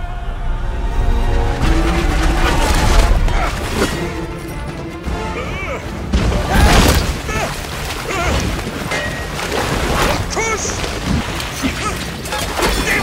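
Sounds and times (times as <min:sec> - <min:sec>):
sea and ship noise: 0:00.0 - 0:13.0.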